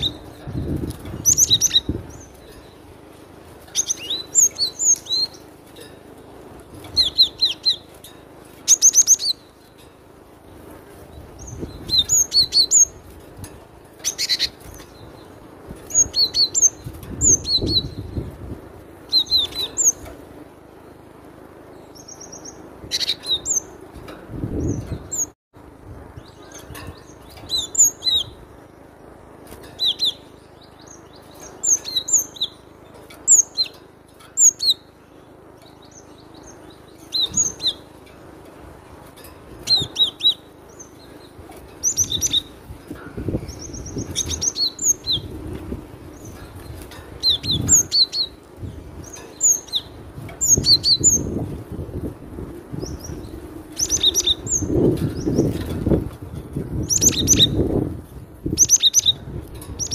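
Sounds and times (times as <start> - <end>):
low steady background noise: 0.0 - 59.9.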